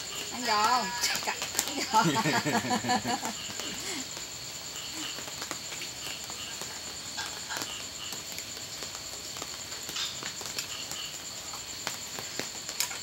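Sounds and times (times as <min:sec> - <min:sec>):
crickets trilling: 0:00.0 - 0:13.0
insect chirping in short pulses: 0:00.0 - 0:13.0.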